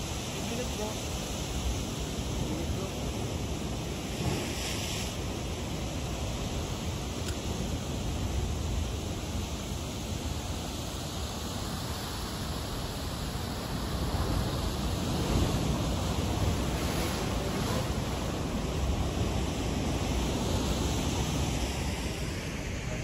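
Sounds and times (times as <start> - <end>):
surf washing against rocks: 0.0 - 23.0
wind buffeting the microphone: 0.0 - 23.0.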